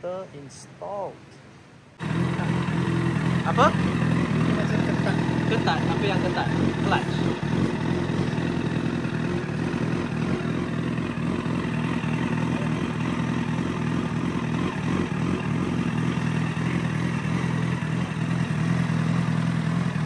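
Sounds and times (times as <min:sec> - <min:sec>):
motorcycle engine idling: 0:02.0 - 0:20.0.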